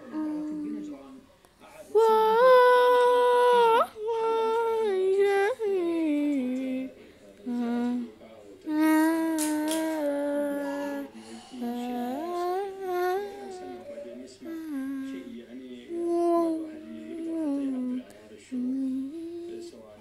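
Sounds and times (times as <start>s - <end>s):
person humming: 0.0s - 1.0s, 2.0s - 8.1s, 8.7s - 15.3s, 15.9s - 19.8s.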